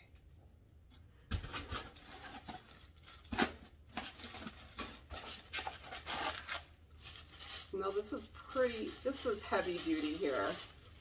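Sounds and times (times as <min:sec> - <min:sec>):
packaging rustling: 0:01.3 - 0:11.0.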